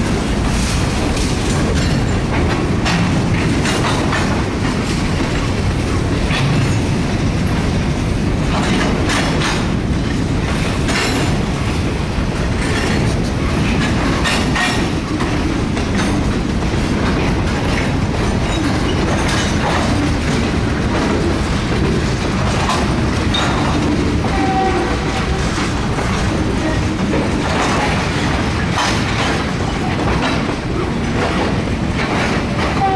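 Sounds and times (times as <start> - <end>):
train wheels rumbling on rails: 0.0 - 32.9
wheels clanking over rail joints: 0.0 - 32.9.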